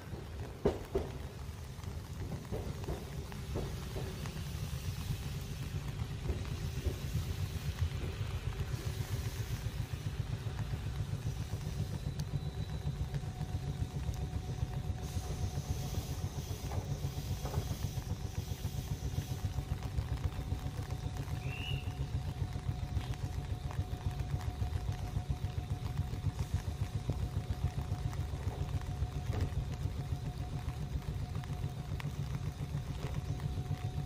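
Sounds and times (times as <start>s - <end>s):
constant low rumble: 0.0s - 34.0s
electric train pulling in: 0.0s - 34.0s.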